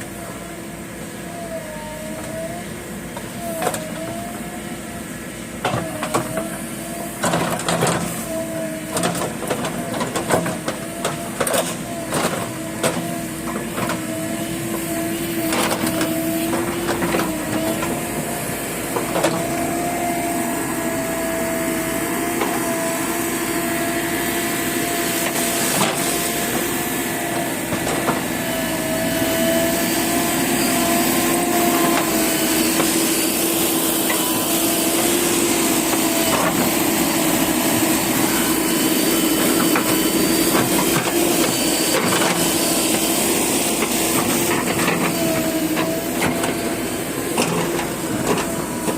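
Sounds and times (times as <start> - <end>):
backhoe loader whining: 0.0 - 48.9.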